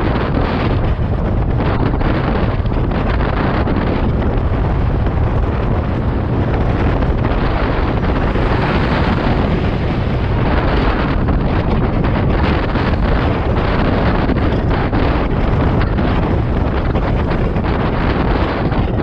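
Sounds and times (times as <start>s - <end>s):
heavy wind on microphone: 0.0s - 19.0s.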